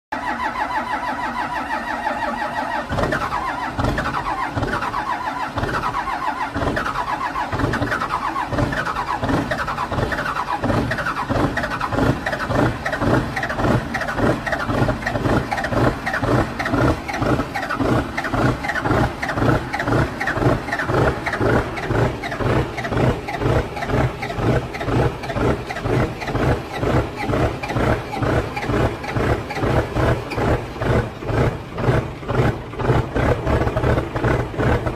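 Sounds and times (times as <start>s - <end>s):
diesel engine running roughly: 0.1s - 34.9s
whining starter cranking: 0.1s - 34.9s.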